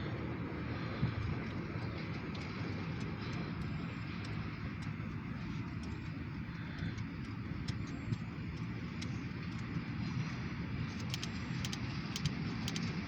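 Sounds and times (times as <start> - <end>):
diesel locomotives idling: 0.0 - 13.0
sharp ticks: 1.4 - 13.0.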